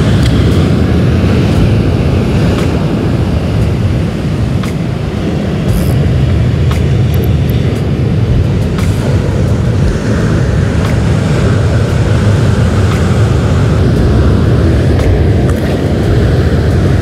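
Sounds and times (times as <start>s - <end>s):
surf breaking on rocks: 0.0s - 17.0s.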